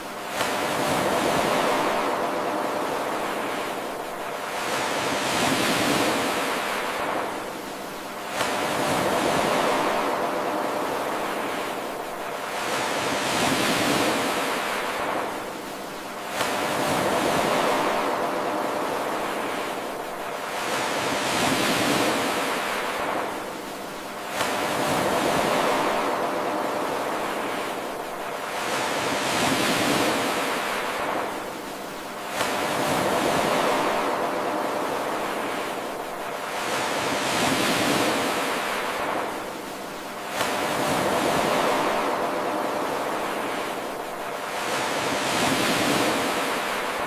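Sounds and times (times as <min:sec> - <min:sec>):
ocean surf washing in: 0:00.0 - 0:47.0.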